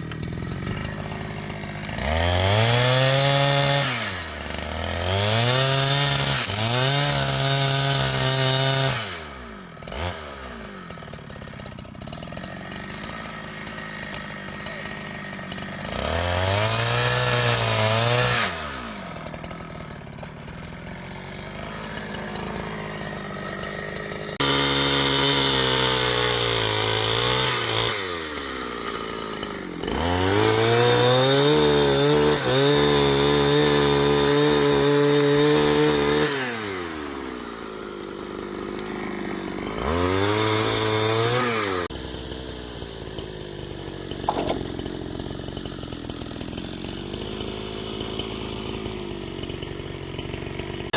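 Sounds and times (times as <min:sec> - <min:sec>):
chainsaw revving and idling: 0:00.0 - 0:50.9.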